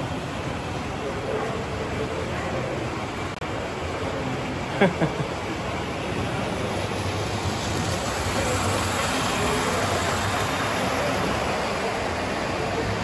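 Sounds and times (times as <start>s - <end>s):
busy exhibit hall noise: 0.0s - 13.0s
model trains rumbling: 0.0s - 13.0s.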